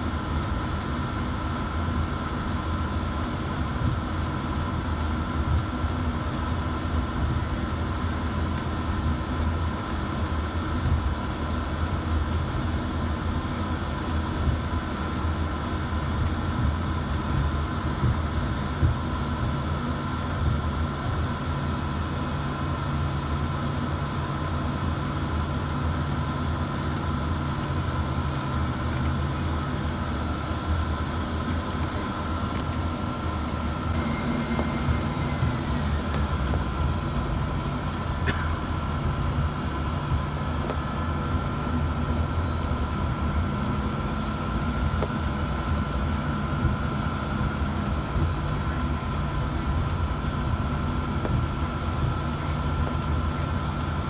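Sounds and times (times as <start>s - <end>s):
jet engines idling: 0.0s - 54.0s
low hum: 0.0s - 54.0s.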